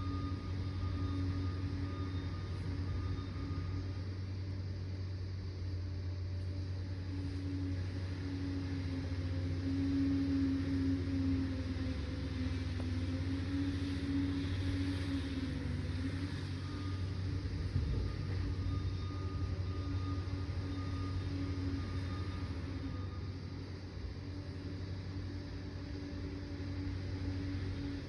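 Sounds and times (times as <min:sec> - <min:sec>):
bulldozer diesel engine: 0:00.0 - 0:28.0.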